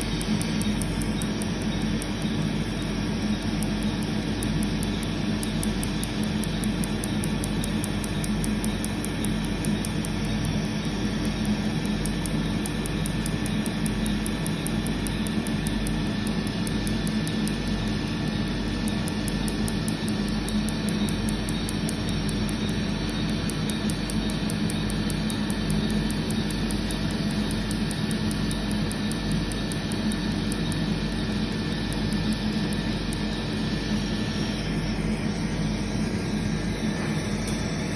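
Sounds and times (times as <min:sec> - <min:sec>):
laser handpiece clicking: 0:00.0 - 0:35.5
machine hum: 0:00.0 - 0:37.9.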